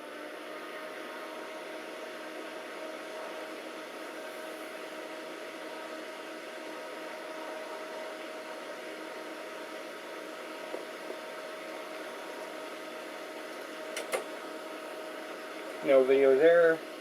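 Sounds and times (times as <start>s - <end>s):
computer cooling fans running: 0.0s - 17.0s.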